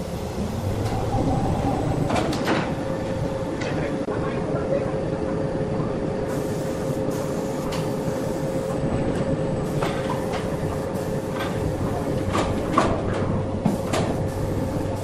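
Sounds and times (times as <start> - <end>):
machinery rumble and hum: 0.0 - 15.0.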